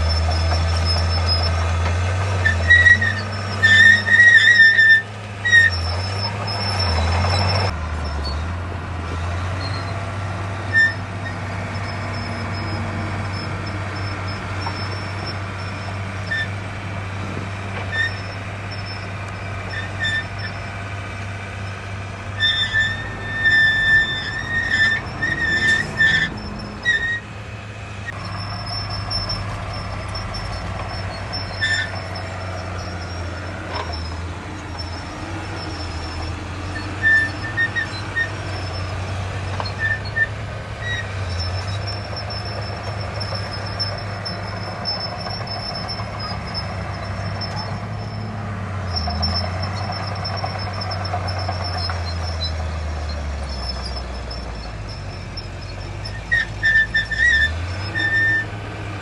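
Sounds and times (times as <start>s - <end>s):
high-pitched squeaks: 0.0s - 8.5s, 10.7s - 16.6s, 17.7s - 20.7s, 21.5s - 27.3s, 28.0s - 58.6s
diesel engine rumble: 0.0s - 59.0s.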